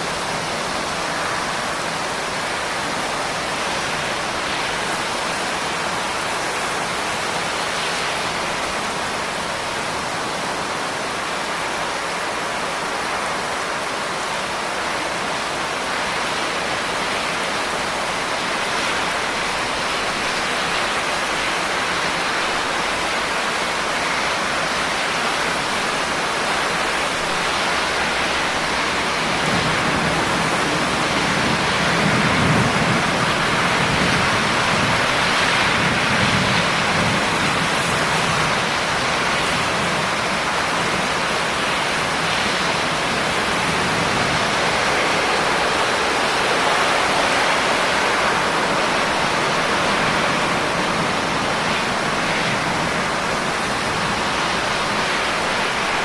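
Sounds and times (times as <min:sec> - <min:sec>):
steady dense rain hiss: 0:00.0 - 0:56.0.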